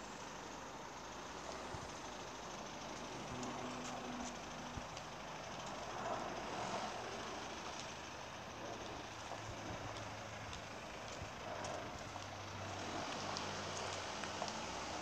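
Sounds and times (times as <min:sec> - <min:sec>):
vehicle engine running: 0:00.0 - 0:15.0
small ticks: 0:01.1 - 0:15.0.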